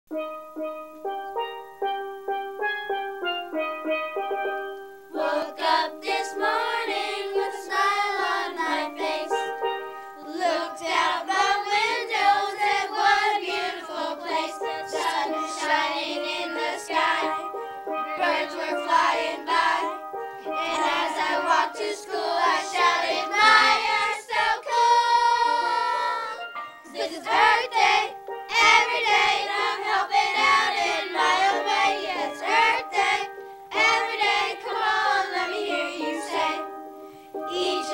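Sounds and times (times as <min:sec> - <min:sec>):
backing music: 0:00.1 - 0:37.9
children singing: 0:05.1 - 0:37.9.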